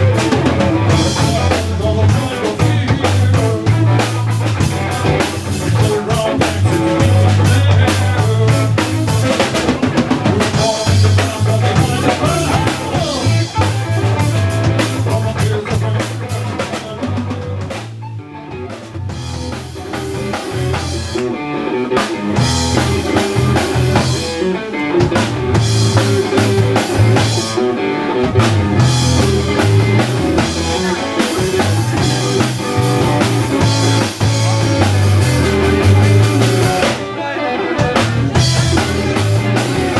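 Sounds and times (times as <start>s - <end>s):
blues-rock band playing: 0.0s - 39.9s
drum kit with rimshots: 0.0s - 39.9s.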